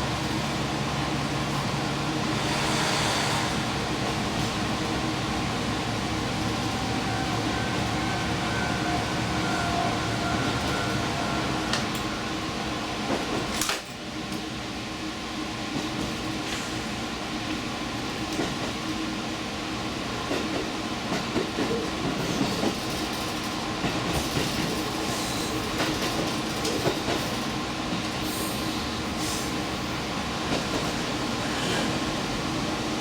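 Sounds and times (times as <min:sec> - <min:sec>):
train rolling and engine noise: 0:00.0 - 0:33.0.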